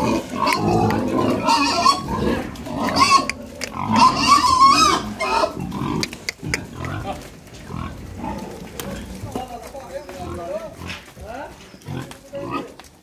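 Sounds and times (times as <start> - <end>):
pigs squealing and grunting: 0.0 - 12.9.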